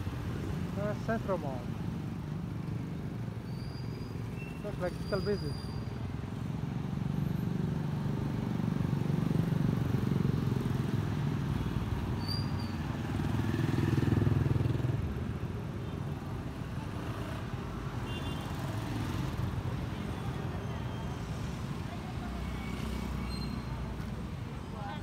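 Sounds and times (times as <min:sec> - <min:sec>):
passing vehicle engines: 0:00.0 - 0:25.0.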